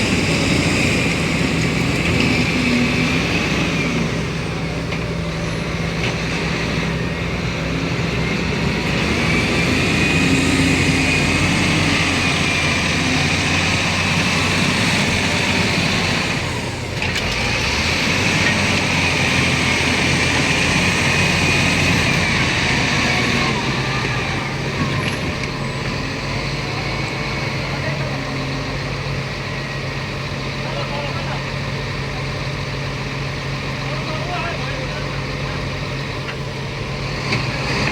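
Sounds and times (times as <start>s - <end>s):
diesel construction machinery running: 0.0s - 37.9s.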